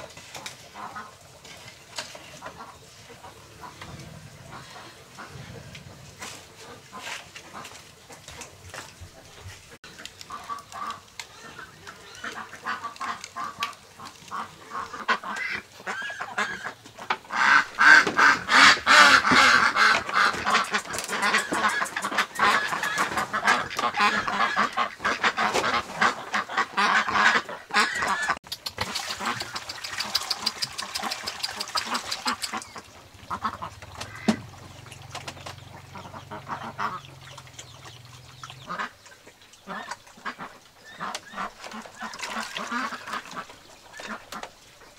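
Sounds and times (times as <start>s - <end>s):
ducks quacking: 0.4s - 1.3s, 2.1s - 44.9s.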